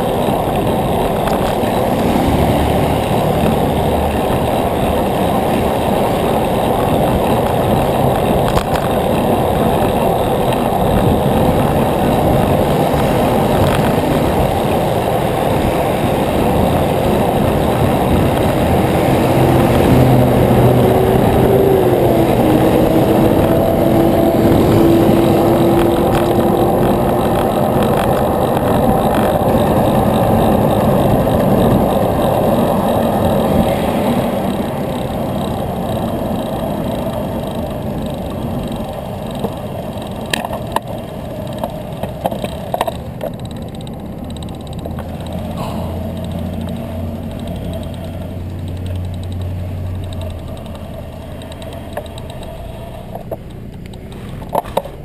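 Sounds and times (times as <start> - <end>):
wind rushing over microphone: 0.0 - 53.4
passing vehicle hum: 0.0 - 55.0.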